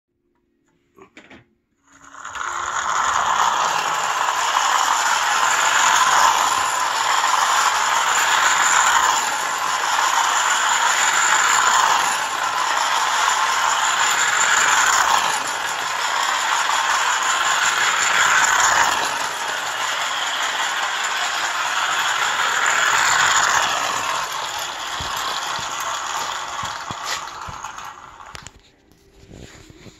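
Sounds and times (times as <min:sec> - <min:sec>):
toy train gears rattling: 0:01.8 - 0:28.6.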